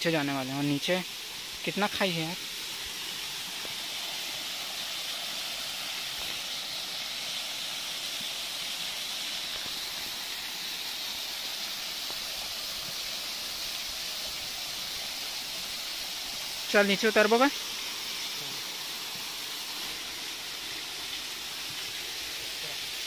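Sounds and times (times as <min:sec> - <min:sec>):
water splashing over rocks: 0:00.0 - 0:23.0.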